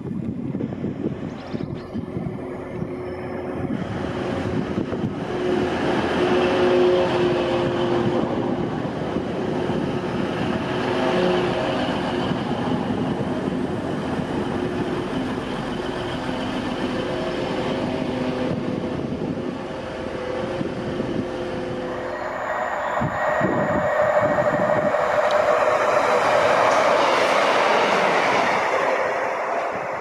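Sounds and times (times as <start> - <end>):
diesel train engine: 0.0 - 30.0
train wheels on rails: 0.0 - 30.0.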